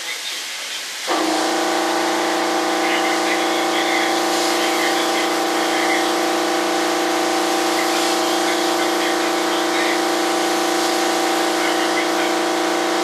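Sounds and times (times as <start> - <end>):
spray gun hissing: 0.0 - 13.0
air compressor humming: 1.1 - 13.0.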